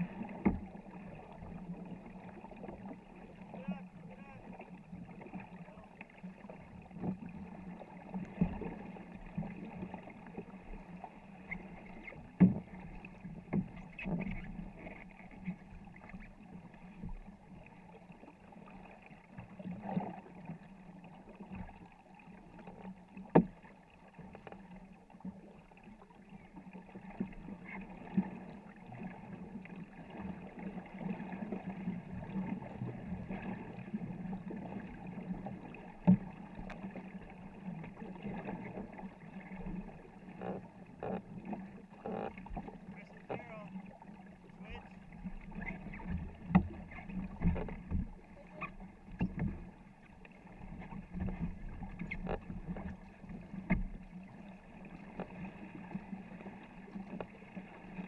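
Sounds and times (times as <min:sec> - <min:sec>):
water splashing along canoe hull: 0:00.0 - 0:58.0.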